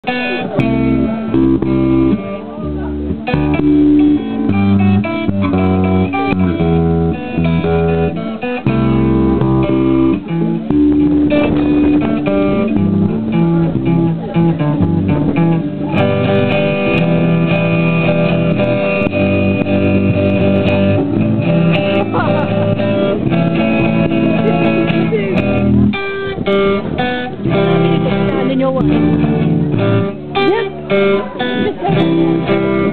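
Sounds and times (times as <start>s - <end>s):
acoustic guitar: 0.0s - 32.9s
electric guitar: 0.0s - 32.9s.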